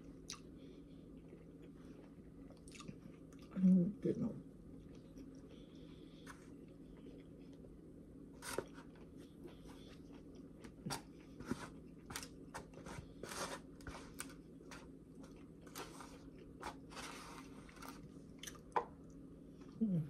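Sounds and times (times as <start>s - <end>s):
person chewing crunchy vegetables: 0.0s - 3.6s, 4.8s - 7.8s, 8.4s - 19.1s
faint steady hum: 0.0s - 20.0s.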